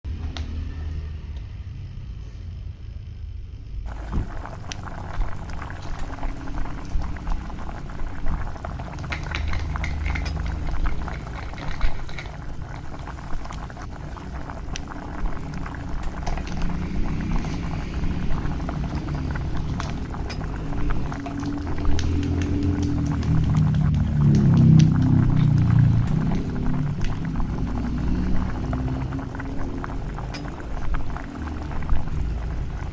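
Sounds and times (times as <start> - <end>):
liquid bubbling in a pot: 3.9 - 32.9
small crackles and clicks: 3.9 - 32.9.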